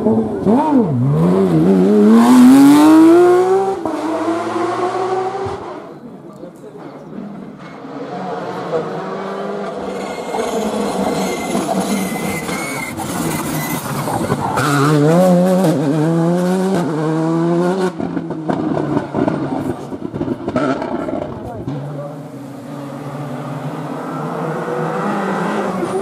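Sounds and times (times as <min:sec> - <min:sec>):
rally car engine revving: 0:00.0 - 0:05.9, 0:07.2 - 0:26.0.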